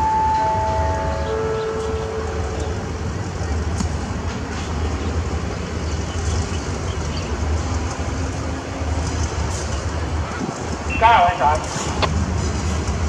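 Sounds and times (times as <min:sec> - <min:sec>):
locomotive engine rumbling: 0:00.0 - 0:13.0.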